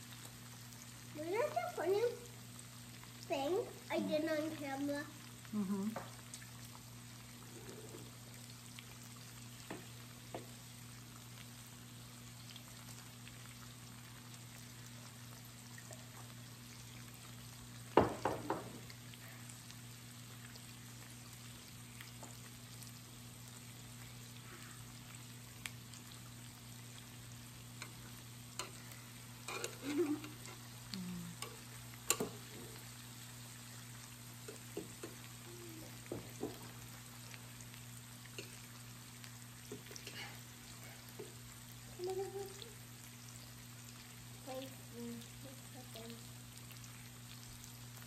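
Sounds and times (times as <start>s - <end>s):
meat sizzling on a grill plate: 0.0s - 48.0s.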